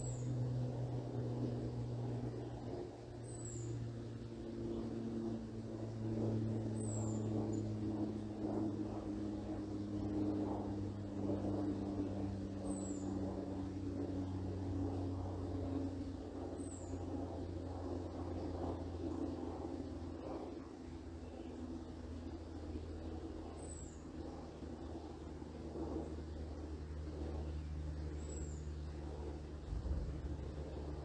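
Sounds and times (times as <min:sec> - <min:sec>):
aircraft drone overhead: 0:00.0 - 0:31.0.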